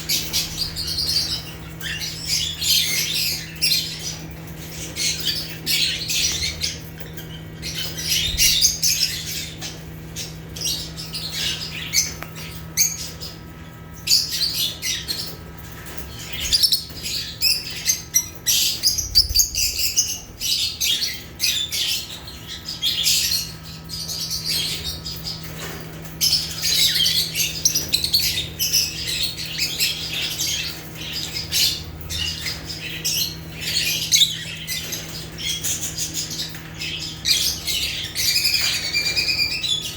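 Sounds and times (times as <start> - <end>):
lovebirds chirping and squawking: 0.0 - 39.9
steady low hum: 0.0 - 39.9.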